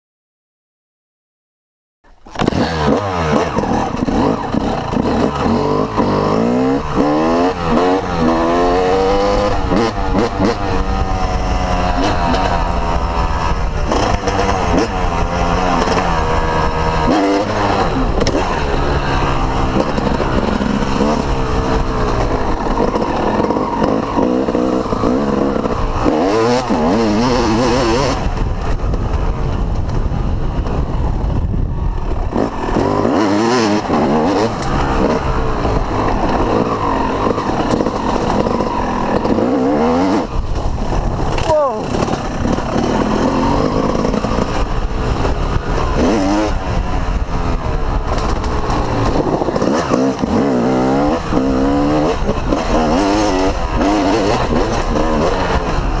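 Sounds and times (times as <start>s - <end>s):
motocross engine revving: 2.3s - 29.3s, 32.0s - 56.0s.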